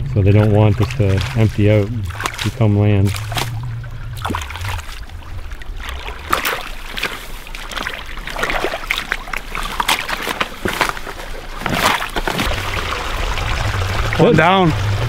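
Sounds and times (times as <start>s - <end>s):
mud and water splashing: 0.0s - 15.0s.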